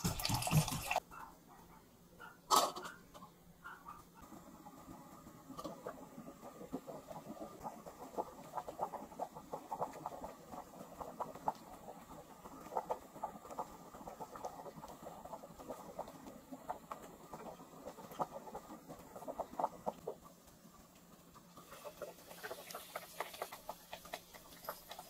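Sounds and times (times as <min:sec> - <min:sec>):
broth boiling and bubbling: 0:00.0 - 0:01.0, 0:04.1 - 0:25.0.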